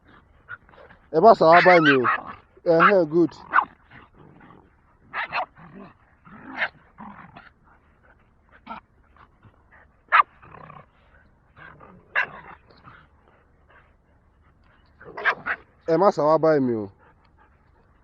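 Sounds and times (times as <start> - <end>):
dogs barking and growling: 0.0 - 18.0.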